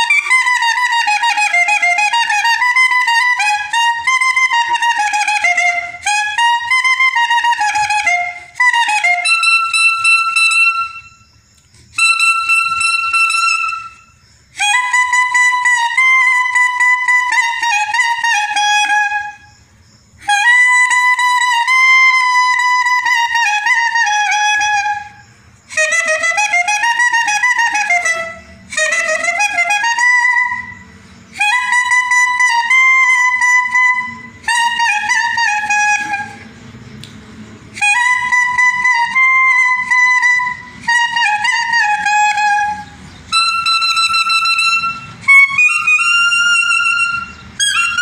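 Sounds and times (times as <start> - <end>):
solo clarinet melody: 0.0 - 11.2, 11.9 - 19.5, 20.2 - 36.6, 37.8 - 48.0.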